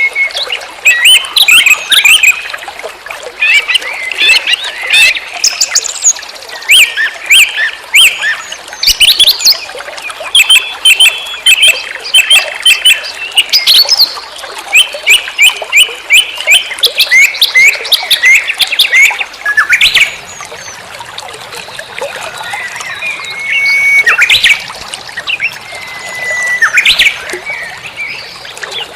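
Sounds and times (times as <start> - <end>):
birds chirping and trilling: 0.0 - 2.6, 3.4 - 20.9, 21.6 - 28.9.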